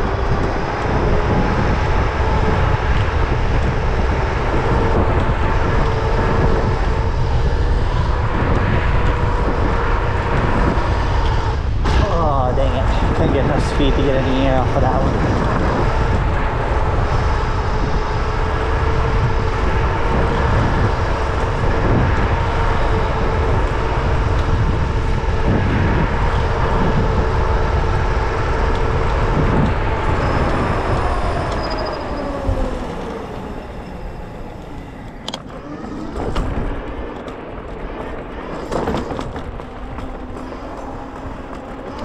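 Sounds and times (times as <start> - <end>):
electric motor whine: 0.0 - 42.0
tyre noise: 0.0 - 42.0
wind on microphone: 0.0 - 42.0.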